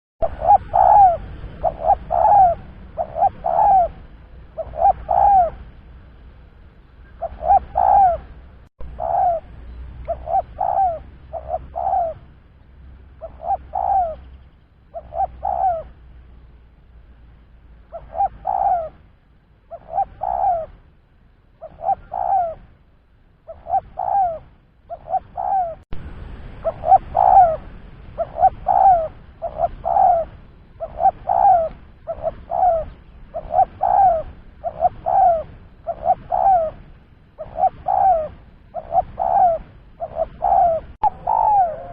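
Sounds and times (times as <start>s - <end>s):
dove cooing: 0.2s - 5.6s, 7.0s - 12.3s, 13.2s - 14.3s, 14.9s - 16.0s, 17.9s - 19.0s, 19.7s - 20.8s, 21.6s - 22.7s, 23.5s - 25.8s, 26.6s - 41.9s
faint low hum: 0.2s - 41.9s.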